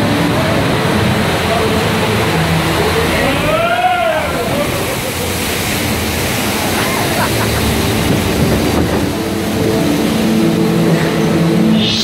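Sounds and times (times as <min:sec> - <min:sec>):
log flume boat rumble: 0:00.0 - 0:12.0
rushing splashing water: 0:00.0 - 0:12.0.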